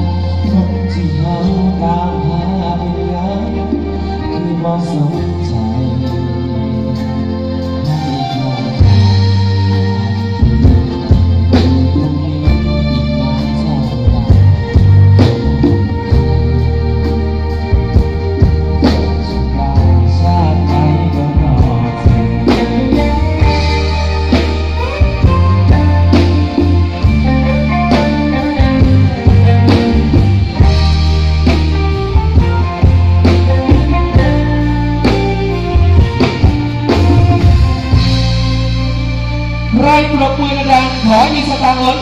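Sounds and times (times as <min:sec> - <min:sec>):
bass line: 0:00.0 - 0:42.0
electric guitar: 0:00.0 - 0:42.0.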